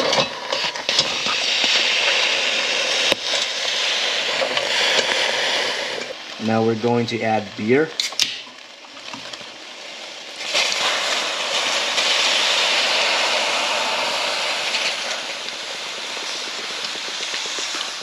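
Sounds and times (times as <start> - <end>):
beer pouring and fizzing: 0.0 - 18.0.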